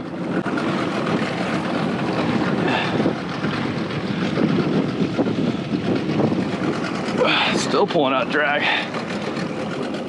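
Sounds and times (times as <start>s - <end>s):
outboard motor running: 0.0s - 10.0s
wind: 0.0s - 10.0s.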